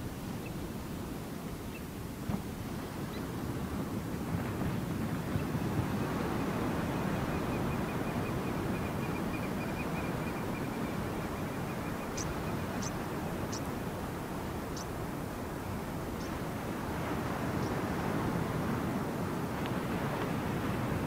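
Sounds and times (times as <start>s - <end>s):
surf: 0.0s - 21.0s
wind: 0.0s - 21.0s.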